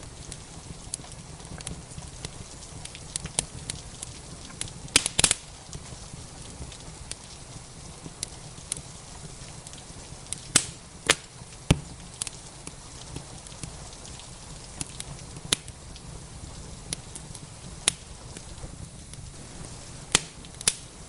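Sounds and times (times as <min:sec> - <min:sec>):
rain hissing: 0:00.0 - 0:21.0
sharp pops of fire: 0:00.0 - 0:21.0
wood fire crackling: 0:00.0 - 0:21.0.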